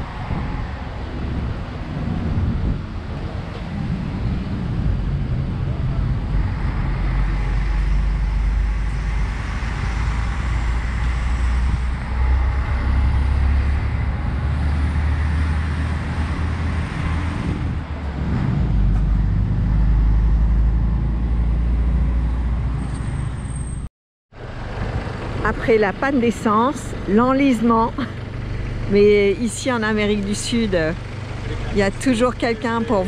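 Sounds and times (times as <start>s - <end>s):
engine rumbling: 0.0s - 33.0s.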